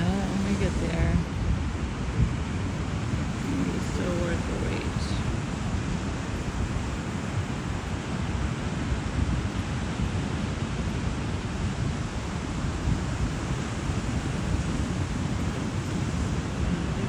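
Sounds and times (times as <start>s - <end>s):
ocean surf on a beach: 0.0s - 17.0s
wind buffeting microphone: 0.0s - 17.0s.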